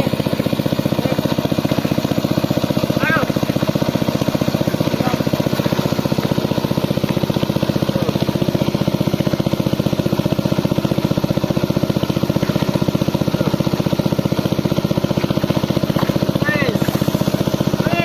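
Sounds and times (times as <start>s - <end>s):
engine-driven water pump running: 0.0s - 18.0s.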